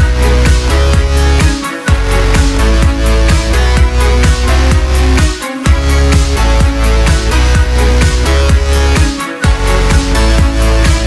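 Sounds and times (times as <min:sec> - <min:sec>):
electronic dance music: 0:00.0 - 0:11.0
heavy bass line: 0:00.0 - 0:11.0
kick drum beat: 0:00.0 - 0:11.0.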